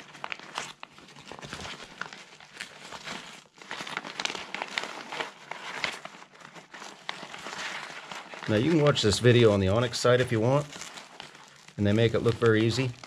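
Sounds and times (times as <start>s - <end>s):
life jacket crinkling and rustling: 0.0s - 13.0s.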